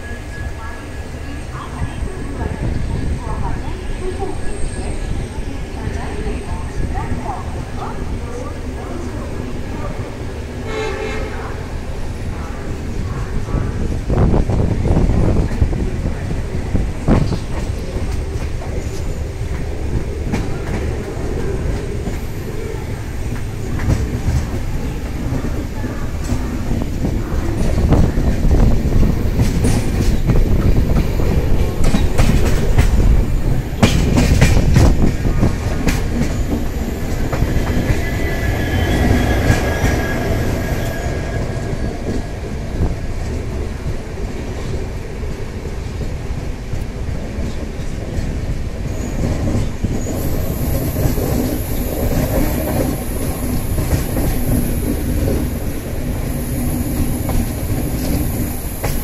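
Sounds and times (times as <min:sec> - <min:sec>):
train rumble inside coach: 0:00.0 - 0:59.0.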